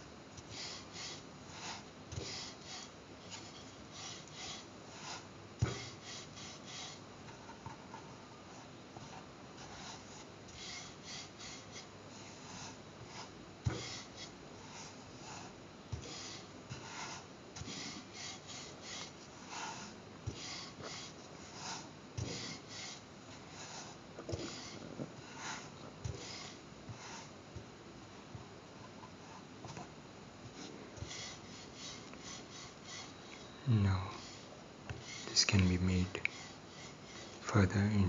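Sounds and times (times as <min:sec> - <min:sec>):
rolling pin rubbing dough: 0:00.0 - 0:38.0.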